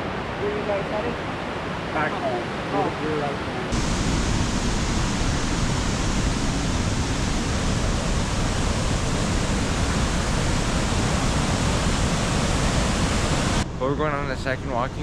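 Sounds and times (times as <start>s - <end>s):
large waterfall rushing: 0.0s - 13.7s.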